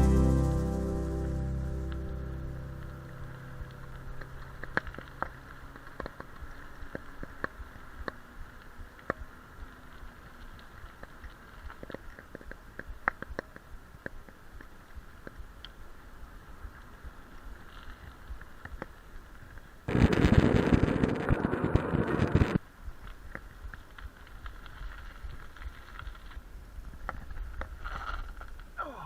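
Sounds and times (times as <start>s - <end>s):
bicycle rumbling along road: 1.2s - 28.8s.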